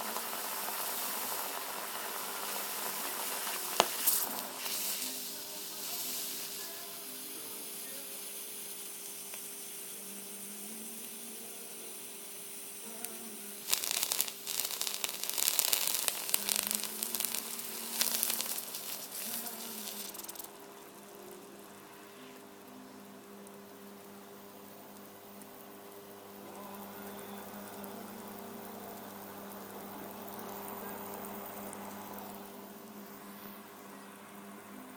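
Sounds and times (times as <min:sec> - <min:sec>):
water sizzling on heating element: 0:00.0 - 0:34.9.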